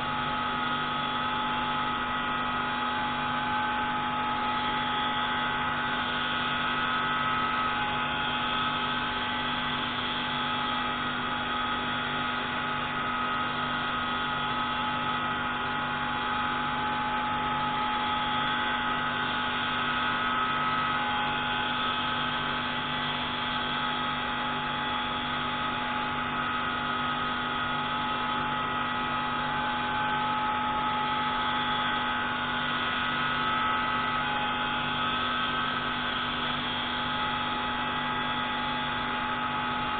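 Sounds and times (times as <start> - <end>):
pneumatic grinding tool whine: 0.0 - 39.9.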